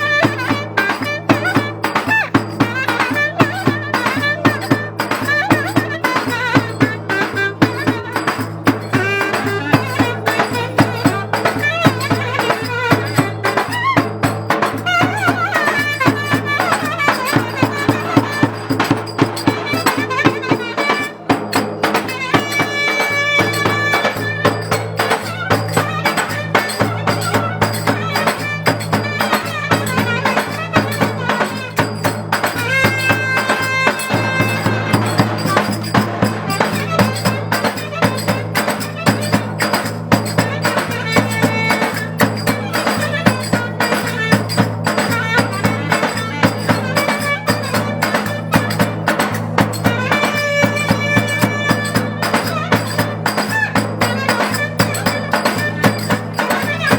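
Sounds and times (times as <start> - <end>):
fast steady percussion: 0.0 - 56.9.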